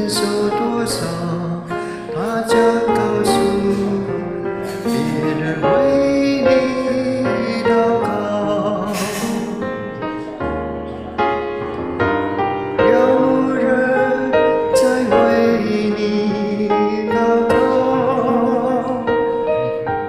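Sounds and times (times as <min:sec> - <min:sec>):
hymn singing: 0:00.0 - 0:20.0
piano accompaniment: 0:00.0 - 0:20.0.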